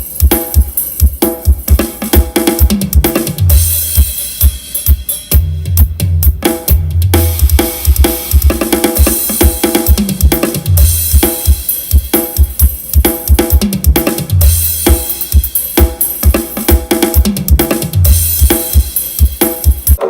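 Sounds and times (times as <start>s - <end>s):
drum-driven music with deep bass: 0.0s - 20.0s.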